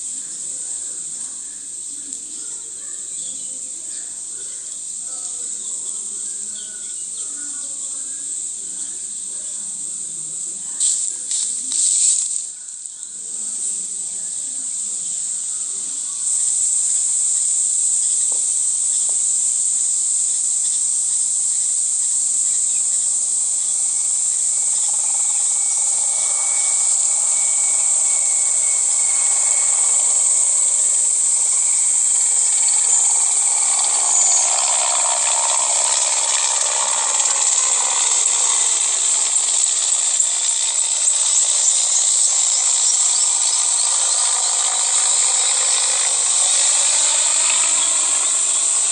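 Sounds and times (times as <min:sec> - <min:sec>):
insects shrilling: 0:00.0 - 0:48.9.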